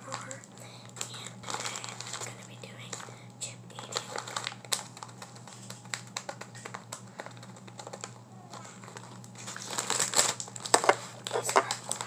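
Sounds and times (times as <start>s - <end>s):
fingers handling plastic chip bag: 0.0s - 12.0s.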